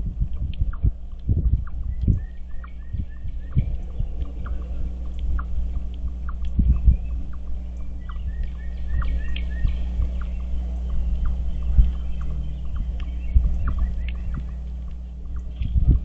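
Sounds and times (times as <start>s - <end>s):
dull low thumps: 0.0s - 16.0s
low rumble: 0.0s - 16.0s
small birds chirping: 0.0s - 16.0s.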